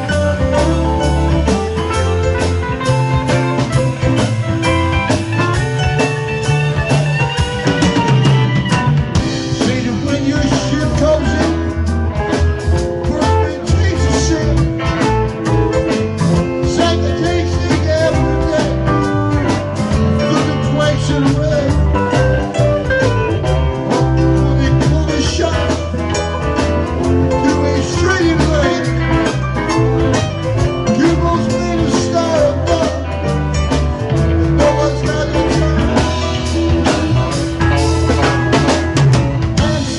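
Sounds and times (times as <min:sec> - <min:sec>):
drum kit: 0:00.0 - 0:39.9
electric bass: 0:00.0 - 0:39.9
electric guitars: 0:00.0 - 0:39.9
keyboard: 0:00.0 - 0:39.9.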